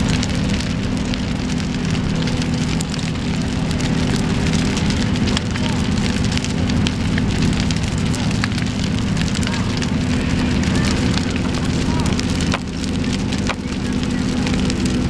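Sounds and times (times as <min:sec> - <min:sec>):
fire crackling and popping: 0:00.0 - 0:15.0
fire engines droning: 0:00.0 - 0:15.0.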